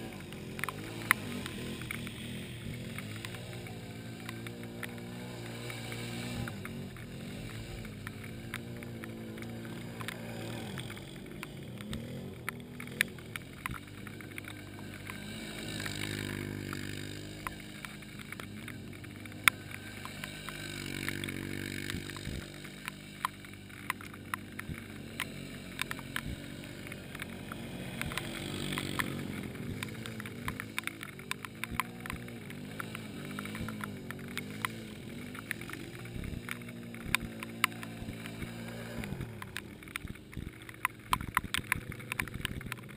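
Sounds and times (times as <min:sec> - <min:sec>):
atv engines revving: 0:00.0 - 0:42.9
sharp clicks and ticks: 0:00.0 - 0:42.9.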